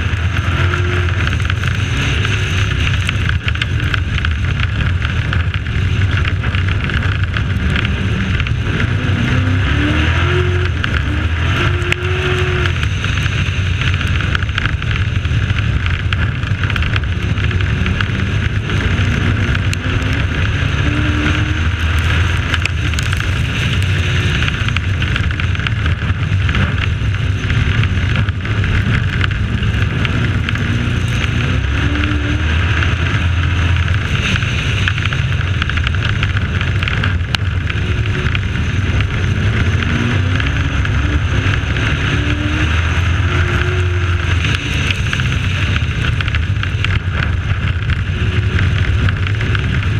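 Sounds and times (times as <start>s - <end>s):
dirt noise: 0.0s - 49.9s
truck engine running hard: 0.0s - 49.9s
wind noise: 0.0s - 49.9s.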